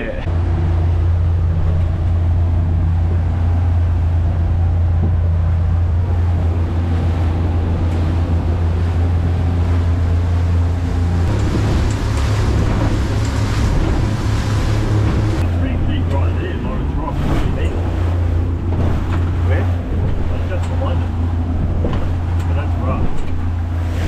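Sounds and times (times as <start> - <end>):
boat engine drone: 0.0 - 24.0
rush of wind and water: 0.0 - 24.0.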